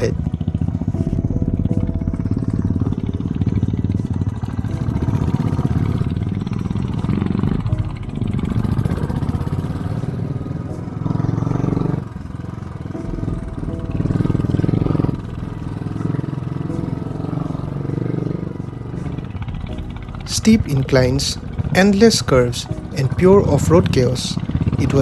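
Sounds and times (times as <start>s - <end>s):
motorcycle engine under load: 0.0s - 25.0s.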